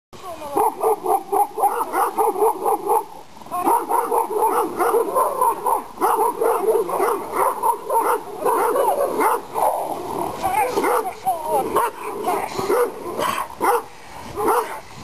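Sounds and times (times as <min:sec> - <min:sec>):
dog barking rapidly: 0:00.6 - 0:03.1, 0:03.7 - 0:09.8, 0:10.8 - 0:14.8.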